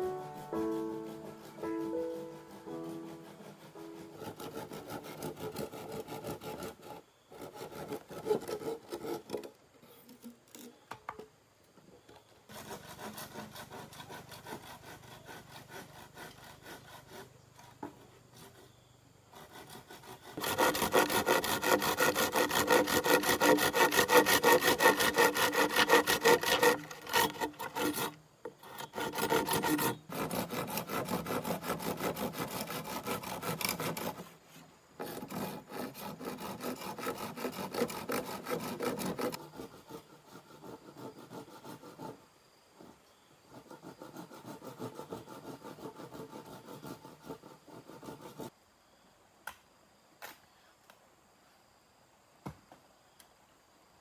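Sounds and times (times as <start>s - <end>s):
hand saw cutting bamboo: 0.0s - 10.3s, 12.5s - 18.6s, 19.4s - 34.4s, 35.0s - 42.2s, 43.5s - 48.5s.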